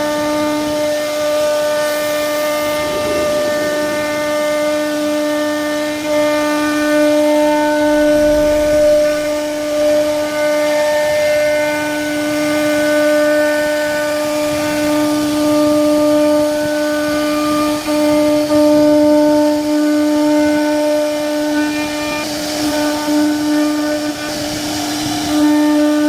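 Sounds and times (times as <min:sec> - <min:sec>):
router spindle high whine: 0:00.0 - 0:26.0.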